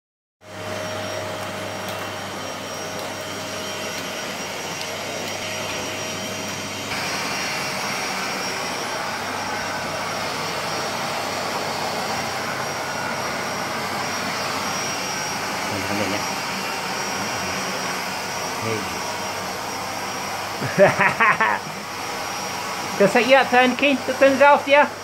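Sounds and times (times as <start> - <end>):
vacuum cleaner running: 0.4 - 25.0.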